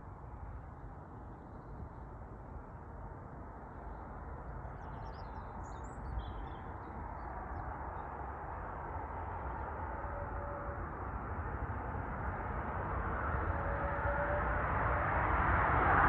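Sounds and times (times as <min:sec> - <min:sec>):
distant jet engine hum and whine: 0:00.0 - 0:16.0.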